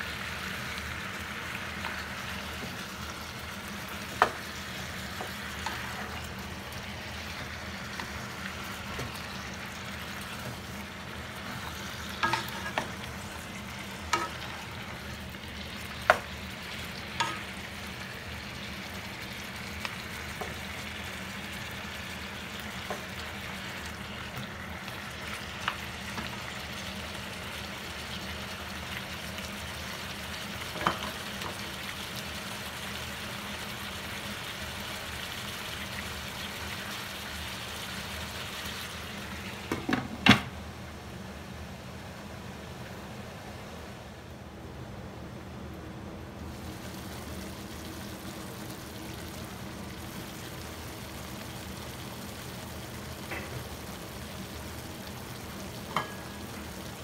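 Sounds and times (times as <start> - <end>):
pork sizzling in a pan: 0.0 - 40.6, 46.4 - 57.0.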